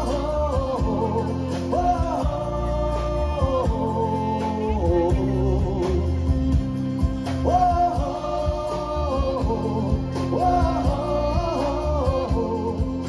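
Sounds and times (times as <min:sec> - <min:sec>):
band playing: 0:00.0 - 0:13.0.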